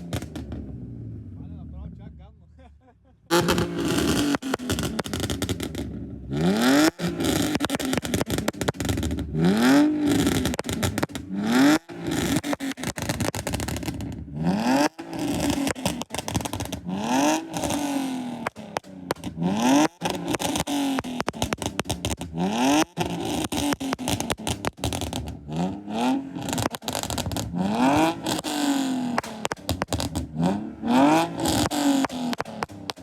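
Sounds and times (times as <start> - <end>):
car engine revving: 0.0 - 2.1, 3.3 - 33.0
exhaust pops and crackles: 0.0 - 2.3, 3.2 - 33.0.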